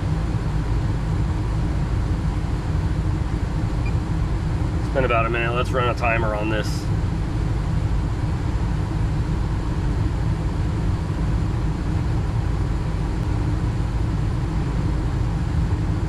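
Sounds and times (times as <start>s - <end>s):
furnace low rumble: 0.0s - 16.0s.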